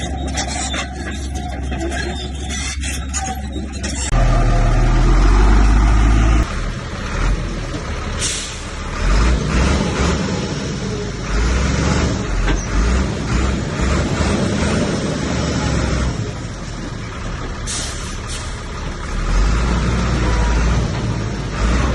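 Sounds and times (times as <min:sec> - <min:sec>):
heavy diesel machinery rumbling: 0:00.0 - 0:21.9.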